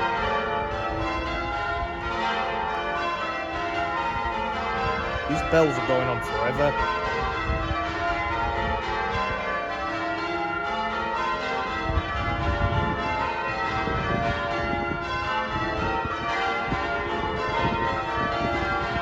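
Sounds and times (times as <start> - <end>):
church bells ringing a peal: 0.0 - 19.0.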